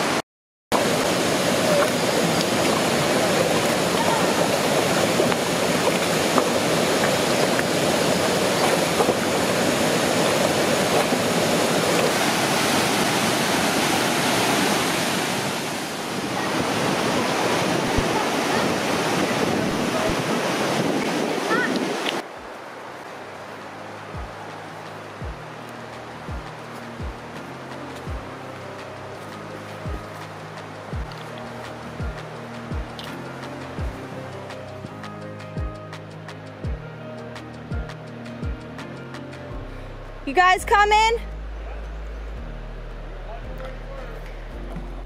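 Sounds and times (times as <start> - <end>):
rushing water: 0.0 - 45.0.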